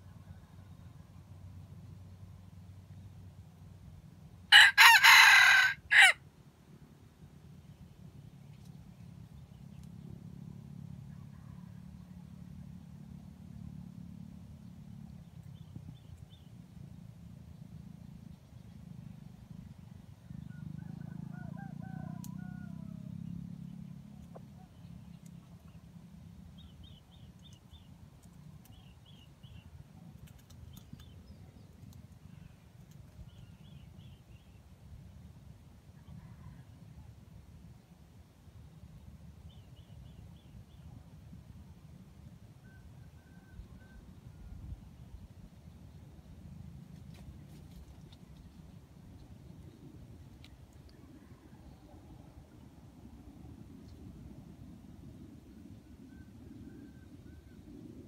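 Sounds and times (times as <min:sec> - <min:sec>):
faint low engine hum: 0:00.0 - 0:04.8, 0:06.2 - 0:58.0
low outdoor rumble: 0:00.0 - 0:58.0.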